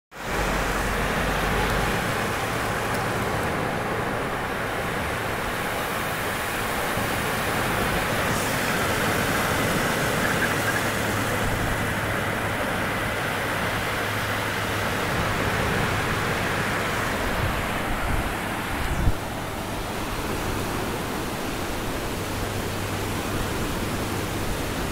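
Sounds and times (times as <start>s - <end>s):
ocean surf breaking: 0.1s - 24.9s
wind rumble on microphone: 0.2s - 24.9s.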